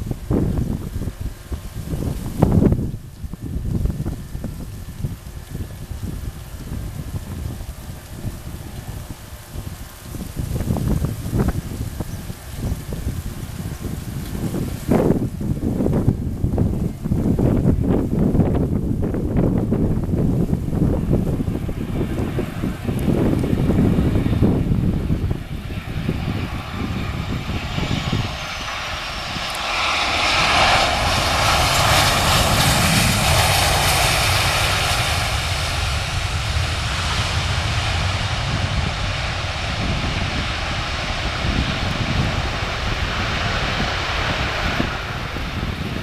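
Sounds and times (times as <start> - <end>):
jet engines passing: 0.0 - 46.0
wind buffeting microphone: 0.0 - 46.0.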